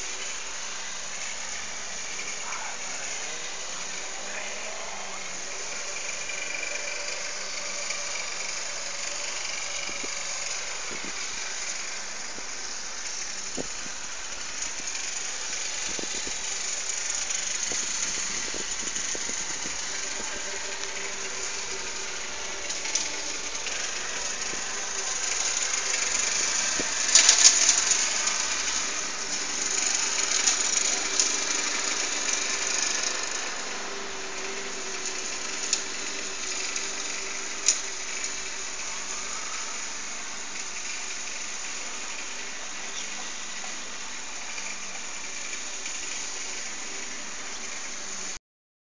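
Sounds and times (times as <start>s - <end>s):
airliner engine drone: 0.0s - 48.4s.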